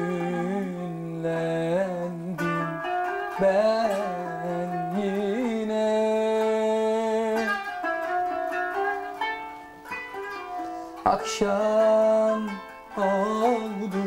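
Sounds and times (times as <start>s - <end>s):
man singing long wavering note: 0.0s - 7.8s, 10.5s - 14.0s
plucked zither notes: 0.0s - 14.0s.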